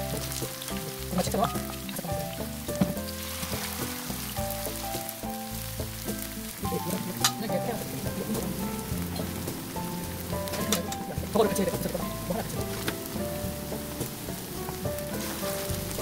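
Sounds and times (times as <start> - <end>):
oil crackling: 0.0 - 16.0
sweet potato sizzling in oil: 0.0 - 16.0.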